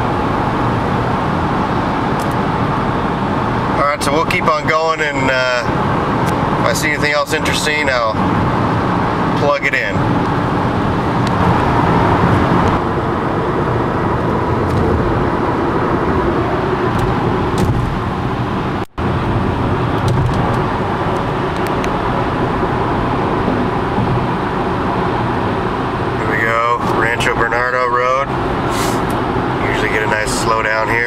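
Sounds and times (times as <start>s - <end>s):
road and engine noise inside car: 0.0s - 31.0s.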